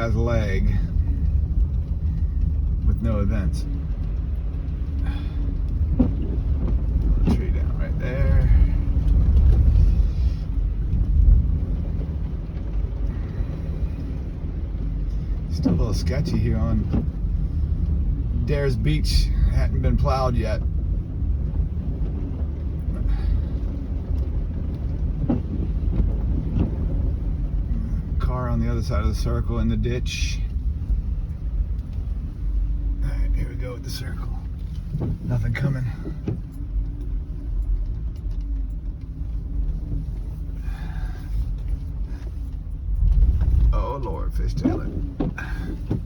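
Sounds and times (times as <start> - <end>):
car driving rumble inside cabin: 0.0 - 46.0
tyres on snowy road: 0.0 - 46.0.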